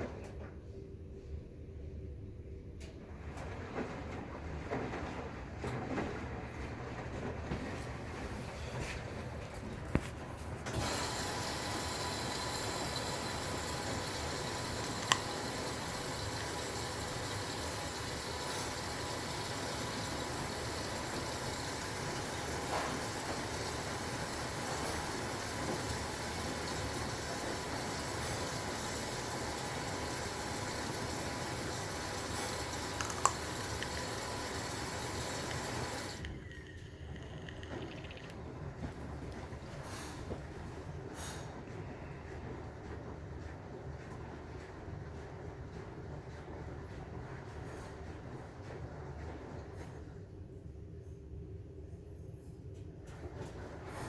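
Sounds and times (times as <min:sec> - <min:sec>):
washing machine filling with water: 0:03.0 - 0:50.5, 0:53.0 - 0:54.0.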